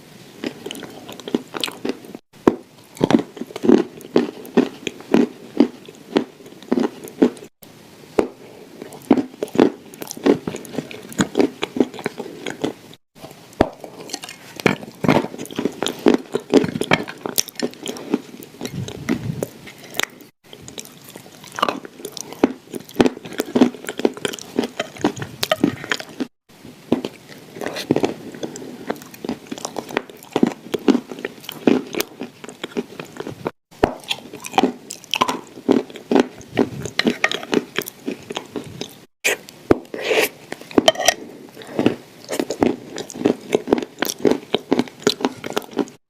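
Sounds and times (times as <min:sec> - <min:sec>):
crunching and chewing: 0:00.4 - 0:07.6, 0:08.2 - 0:46.0.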